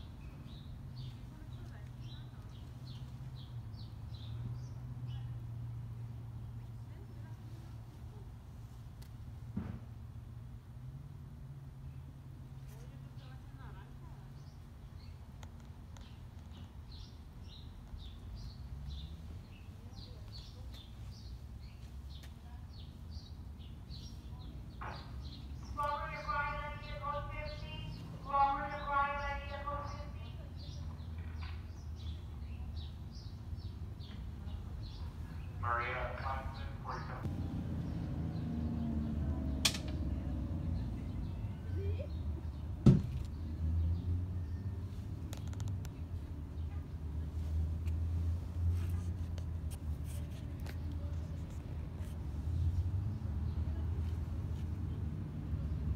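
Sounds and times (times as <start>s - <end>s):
small birds chirping: 0.0s - 5.5s, 11.8s - 55.9s
low outdoor rumble: 0.0s - 55.9s.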